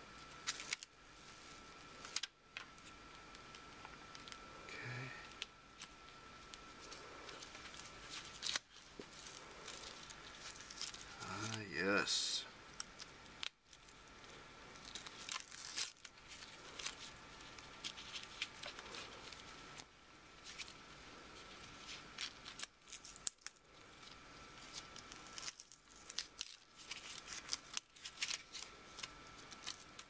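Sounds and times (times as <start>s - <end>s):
paper backing peeling and crinkling: 0.2s - 12.1s, 12.7s - 30.0s.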